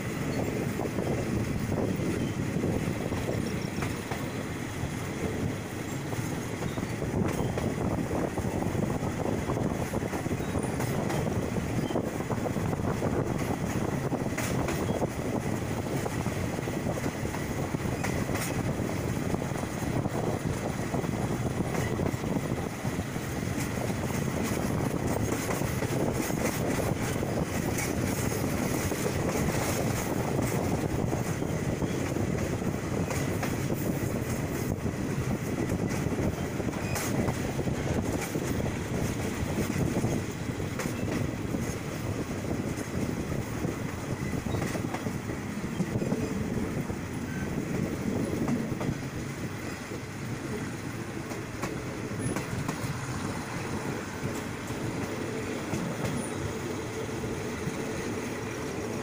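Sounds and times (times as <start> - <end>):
steel train wheels on rails: 0.0 - 59.0.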